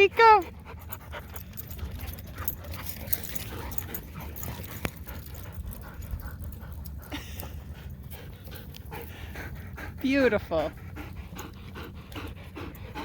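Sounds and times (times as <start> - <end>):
dog panting: 0.0 - 13.0
steady low rumble: 0.5 - 13.0.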